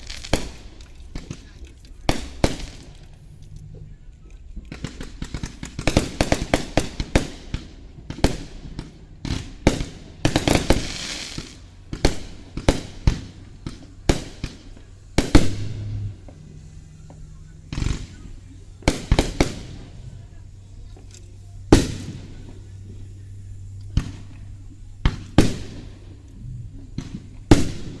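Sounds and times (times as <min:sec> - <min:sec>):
fireworks bursting with sharp bangs: 0:00.0 - 0:28.0
fireworks hissing crackle: 0:00.0 - 0:28.0.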